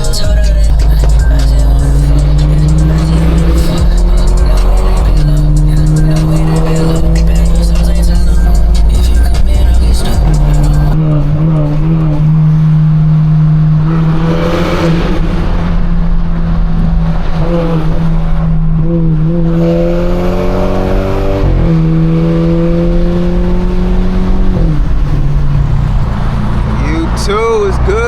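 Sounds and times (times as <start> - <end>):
car exhaust droning: 0.0 - 28.0.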